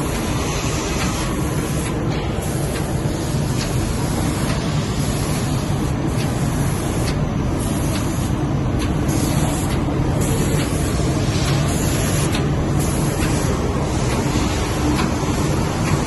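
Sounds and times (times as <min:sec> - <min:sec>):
industrial machinery humming: 0:00.0 - 0:16.0
machinery hiss: 0:00.0 - 0:16.0.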